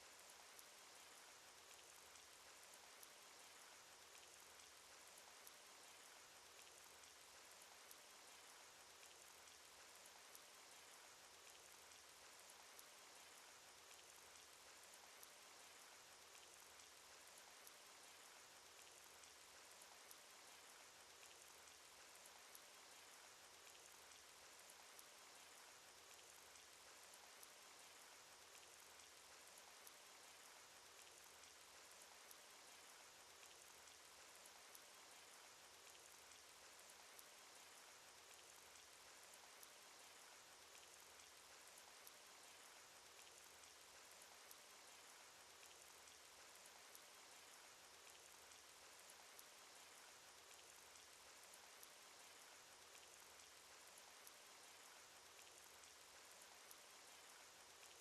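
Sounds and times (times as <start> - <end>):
rain hiss with drop ticks: 0.0 - 58.0.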